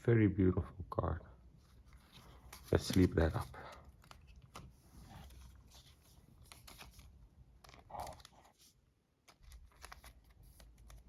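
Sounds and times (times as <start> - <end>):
trading cards rustling: 1.6 - 11.0.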